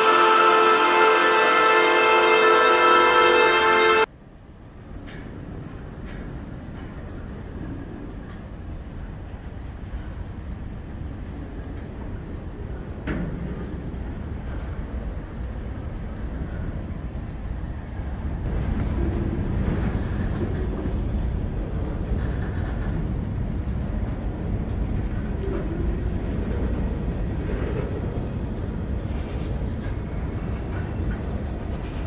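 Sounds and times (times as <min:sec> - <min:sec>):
steel wheels rumbling on rail: 0:00.0 - 0:32.0.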